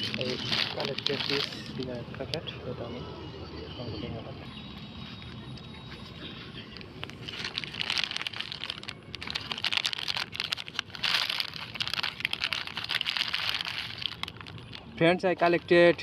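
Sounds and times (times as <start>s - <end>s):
plastic crinkling and rustling: 0.0s - 2.3s, 5.0s - 16.0s.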